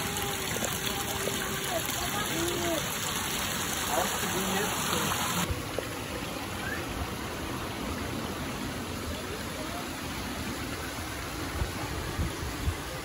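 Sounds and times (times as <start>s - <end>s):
stream splashing over rocks: 0.0s - 13.0s.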